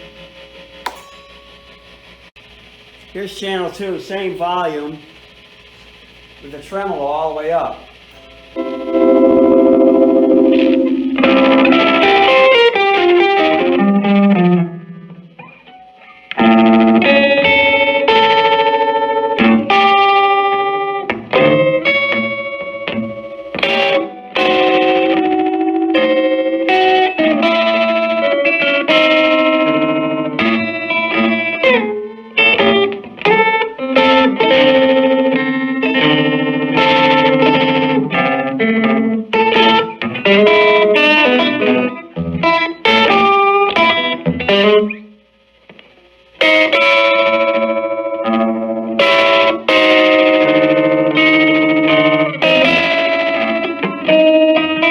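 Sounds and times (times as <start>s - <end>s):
electric guitar with tremolo: 0.0s - 54.9s.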